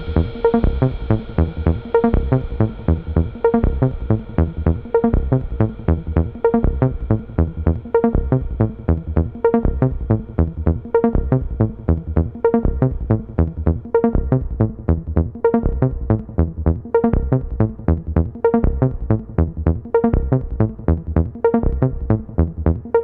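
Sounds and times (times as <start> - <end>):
electronic music with plucked notes: 0.0 - 23.0.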